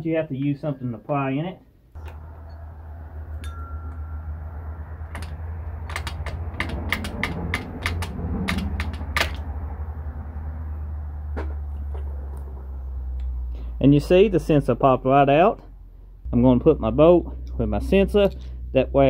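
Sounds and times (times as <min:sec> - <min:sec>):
steady low hum: 0:01.8 - 0:19.0.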